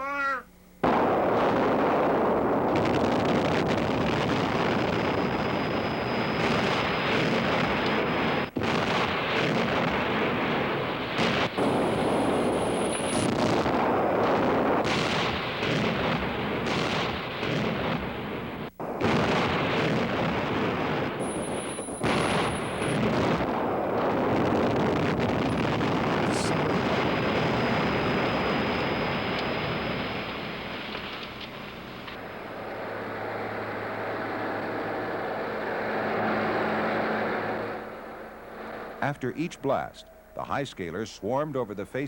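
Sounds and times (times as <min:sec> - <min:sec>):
explosive blasting rumble: 0:00.8 - 0:39.9.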